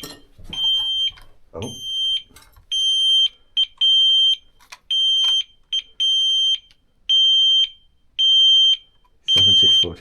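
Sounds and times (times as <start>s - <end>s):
electronic alarm beeping: 0.0s - 10.0s.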